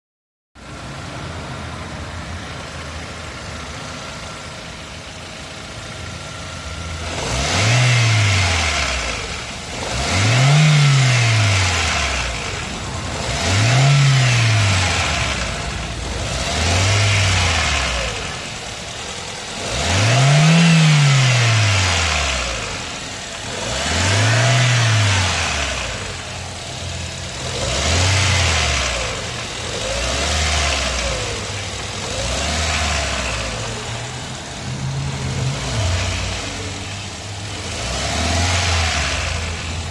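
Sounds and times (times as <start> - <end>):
car engine idling and revving: 0.6 - 39.9.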